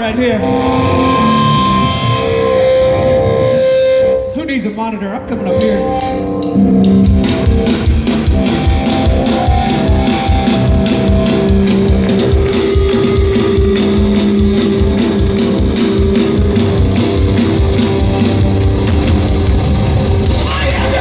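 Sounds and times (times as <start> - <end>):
bass: 0.0 - 4.2, 5.3 - 21.0
distorted electric guitars: 0.0 - 21.0.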